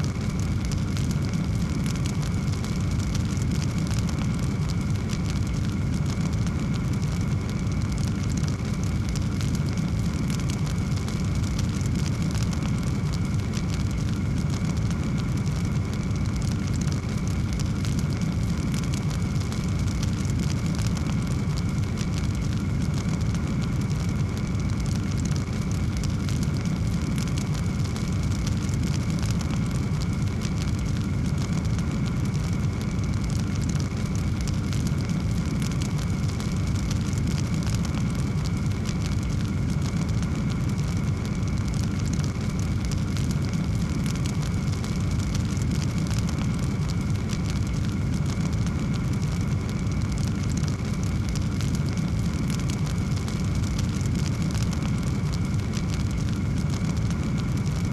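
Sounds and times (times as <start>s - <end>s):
fire rumbling and crackling: 0.0s - 57.9s.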